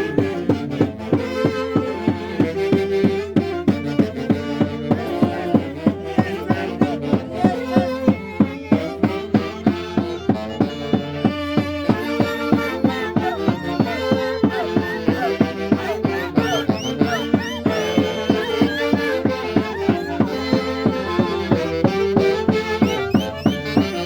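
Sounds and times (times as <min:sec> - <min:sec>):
steady drum beat: 0:00.0 - 0:24.0
violins playing melody: 0:00.0 - 0:24.0.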